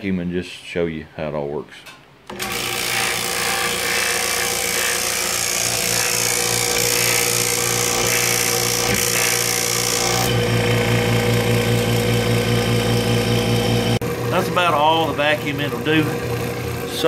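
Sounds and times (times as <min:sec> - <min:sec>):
vacuum pump running: 0:02.3 - 0:17.0.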